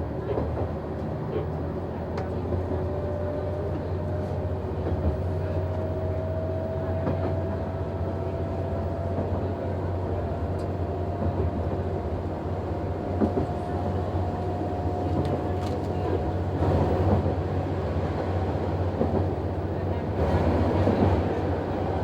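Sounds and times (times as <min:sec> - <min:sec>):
railcar engine drone with whine: 0:00.0 - 0:22.0.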